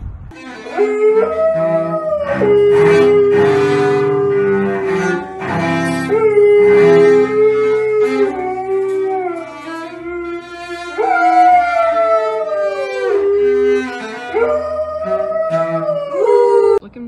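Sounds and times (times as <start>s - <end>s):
cello playing slow notes: 0.3s - 16.8s
dog howling: 0.6s - 16.8s.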